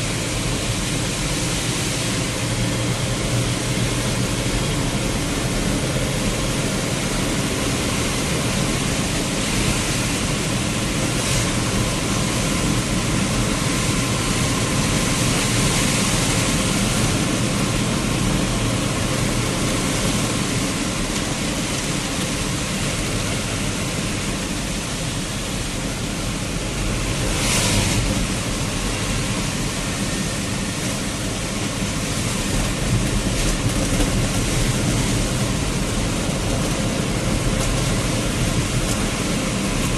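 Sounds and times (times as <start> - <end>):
tyres on a wet road: 0.0 - 39.9
vehicle driving through heavy rain: 0.0 - 39.9
wind: 0.0 - 39.9.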